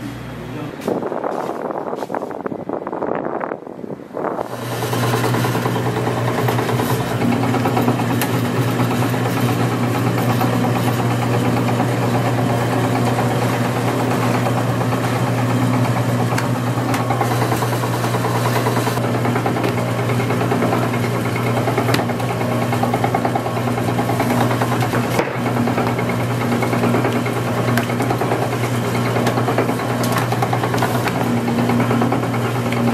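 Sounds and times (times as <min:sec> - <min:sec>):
dough sheeting machine humming: 0:04.4 - 0:32.9.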